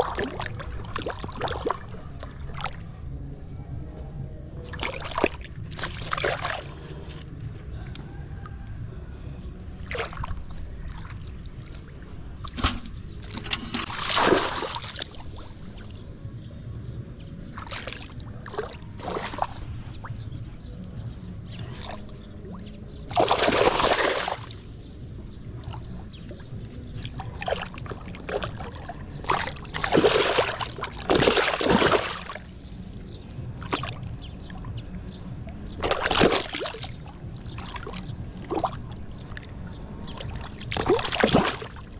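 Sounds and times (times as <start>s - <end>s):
water splashing and sloshing: 0.0s - 3.6s, 4.4s - 41.9s.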